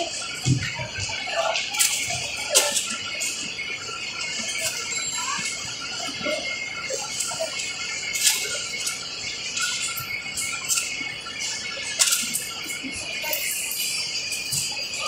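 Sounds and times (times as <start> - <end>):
shop hubbub: 0.0 - 15.0.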